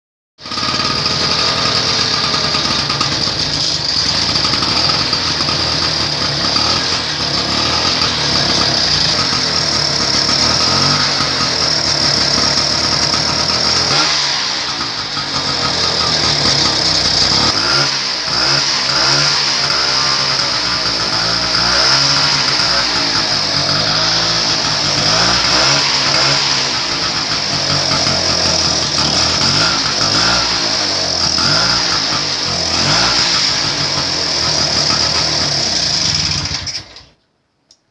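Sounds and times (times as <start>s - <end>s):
scooter engine revving: 0.4s - 37.1s.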